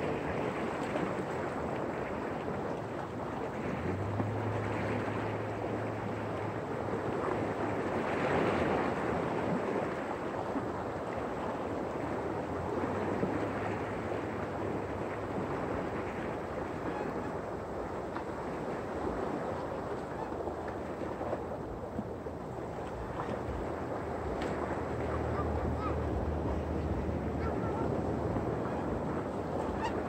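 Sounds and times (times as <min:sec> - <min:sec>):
low steady hum: 0:00.0 - 0:30.0
waves washing over rocks: 0:00.0 - 0:30.0.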